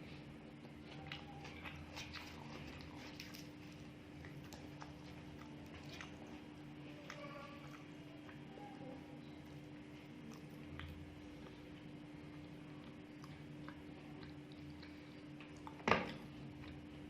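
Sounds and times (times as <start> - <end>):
steady low hum: 0.0 - 17.0
person chewing: 0.1 - 8.5, 9.6 - 17.0.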